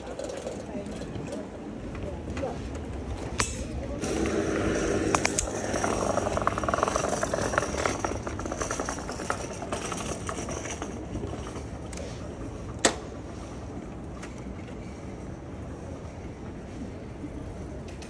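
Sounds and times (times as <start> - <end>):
bicycle tyres rumbling: 0.0 - 17.7.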